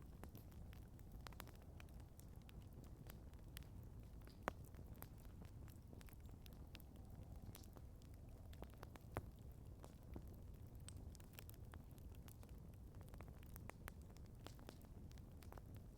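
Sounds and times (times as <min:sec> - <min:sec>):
campfire crackling and popping: 0:00.0 - 0:15.9.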